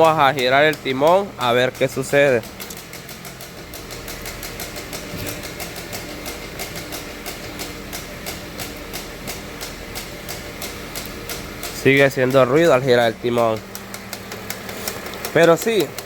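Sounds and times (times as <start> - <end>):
power steering pump ticking clatter: 0.0 - 16.0.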